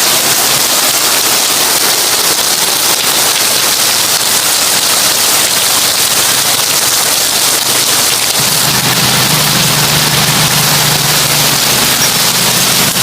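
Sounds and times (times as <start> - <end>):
heavy rain on a tin roof: 0.0 - 13.0.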